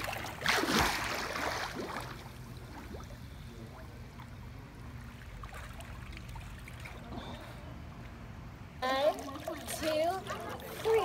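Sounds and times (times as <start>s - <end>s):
low steady hum: 0.0s - 11.0s
pool water lapping and trickling: 0.0s - 11.0s.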